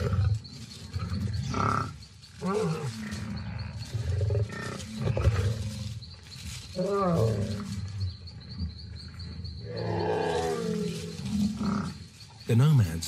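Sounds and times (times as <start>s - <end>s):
lions growling and snarling: 0.0s - 12.4s.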